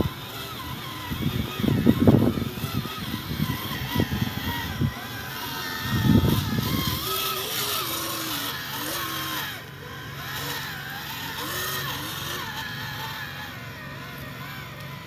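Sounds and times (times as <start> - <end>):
steady low hum: 0.0 - 15.0
toy truck motor whining: 0.0 - 15.0.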